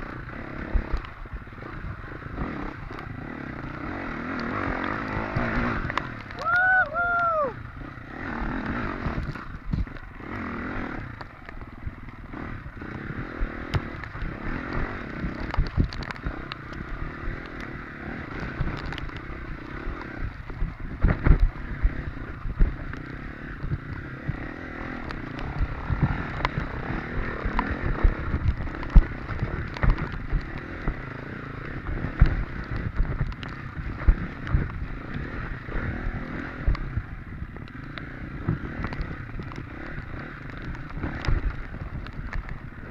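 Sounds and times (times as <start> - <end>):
dirt bike engine: 0.0 - 42.9.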